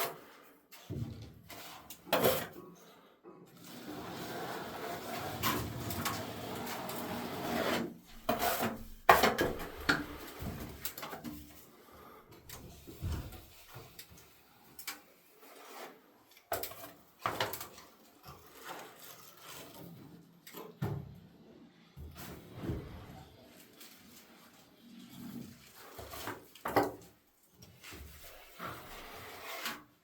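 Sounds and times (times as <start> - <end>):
hand tool scraping plaster ceiling: 0.0 - 2.7, 3.5 - 12.0, 12.6 - 20.2, 22.2 - 30.0.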